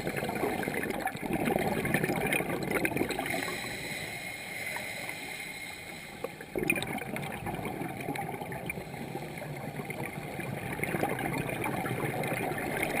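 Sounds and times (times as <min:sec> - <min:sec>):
water gurgling and crackling: 0:00.0 - 0:13.0.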